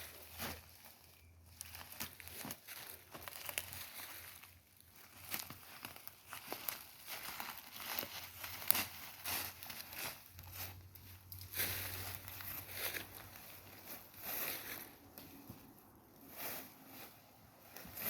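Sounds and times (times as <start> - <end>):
rustling and crackling: 0.0 - 18.0.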